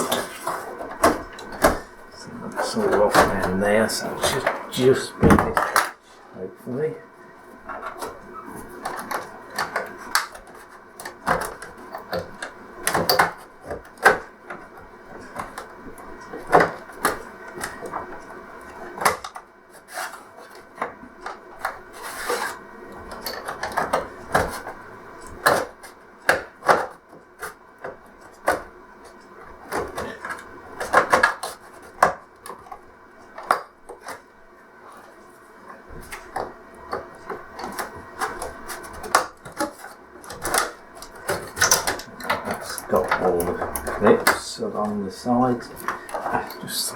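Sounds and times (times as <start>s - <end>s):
plastic scraping on plastic: 0.0s - 6.2s, 7.6s - 46.9s.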